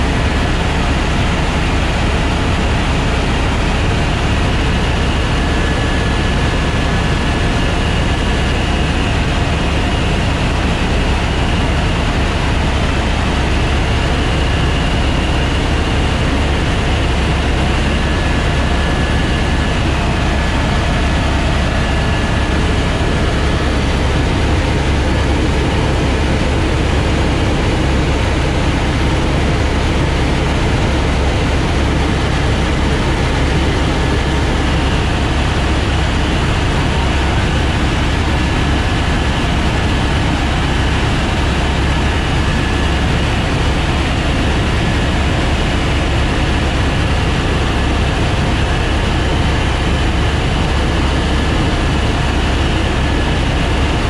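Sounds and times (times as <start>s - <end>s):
helicopter rotor drone: 0.0s - 54.0s.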